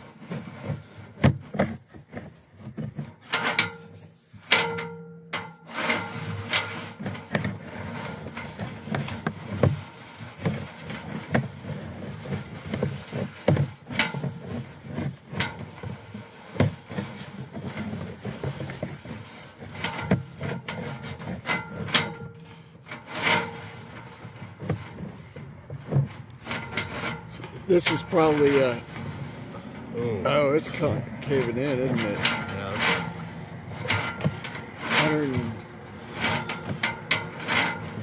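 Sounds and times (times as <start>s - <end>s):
cable rubbing and scraping: 0.0s - 38.0s.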